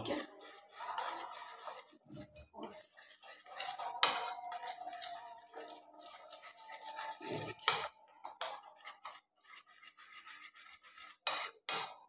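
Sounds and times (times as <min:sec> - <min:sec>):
hand squishing batter in a bowl: 0:00.0 - 0:12.0.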